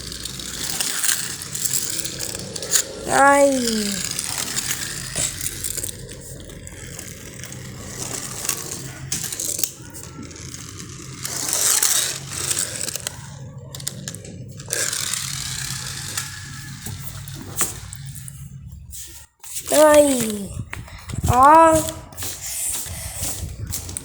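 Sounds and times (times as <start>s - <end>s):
plastic toys rustling and clicking: 0.0s - 24.0s.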